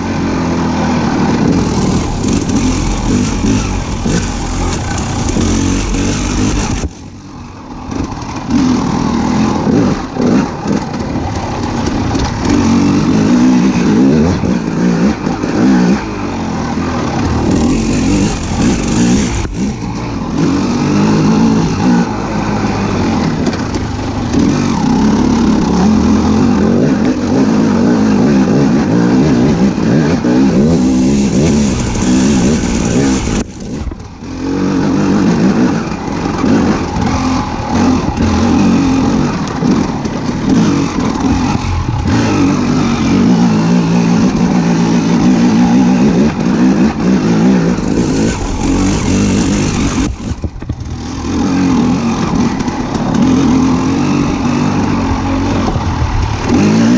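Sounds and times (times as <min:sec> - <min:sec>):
vehicle engine revving: 0:00.0 - 0:56.9.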